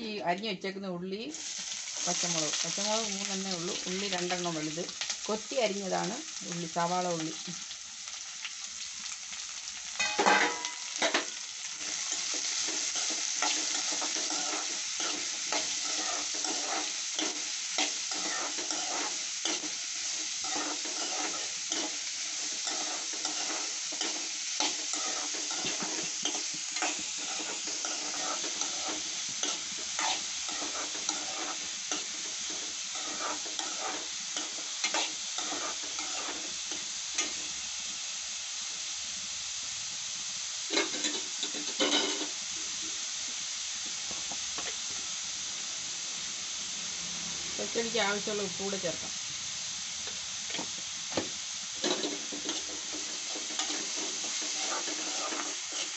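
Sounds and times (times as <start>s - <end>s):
food sizzling in hot oil: 0.0s - 55.9s.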